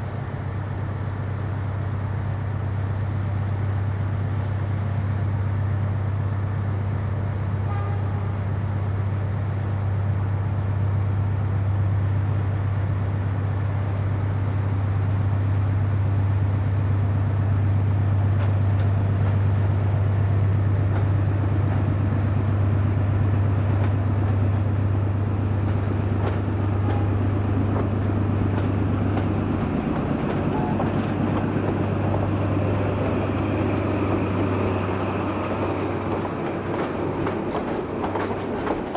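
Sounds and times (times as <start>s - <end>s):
locomotive humming and rumbling: 0.0s - 38.9s
rail cars rattling and clicking: 0.0s - 38.9s.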